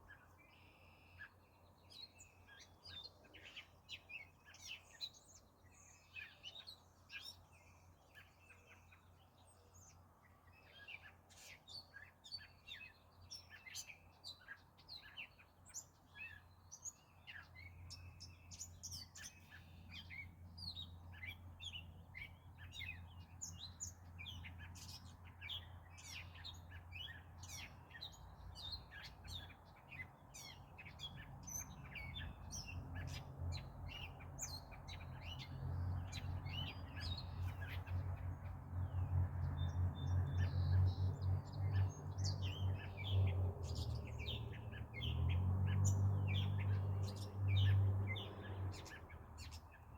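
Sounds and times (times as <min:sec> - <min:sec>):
wild birds chirping: 0:00.0 - 0:49.9.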